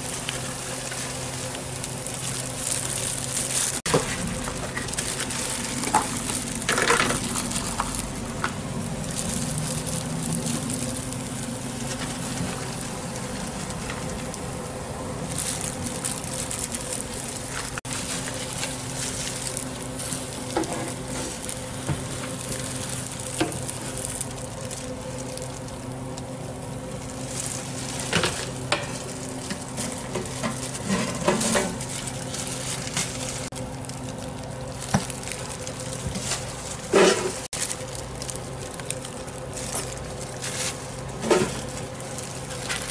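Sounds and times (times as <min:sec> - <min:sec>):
low hum: 0:00.0 - 0:42.9
omelette sizzling on a griddle: 0:00.0 - 0:42.9.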